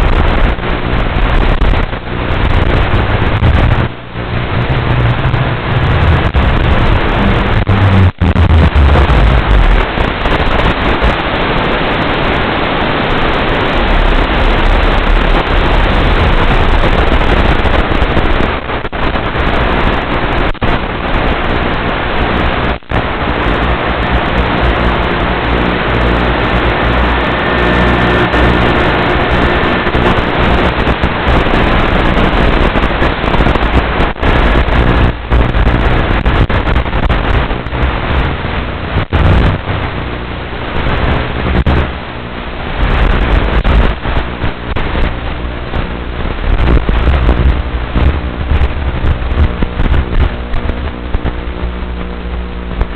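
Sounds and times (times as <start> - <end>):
loud static hiss: 0.0 - 52.9.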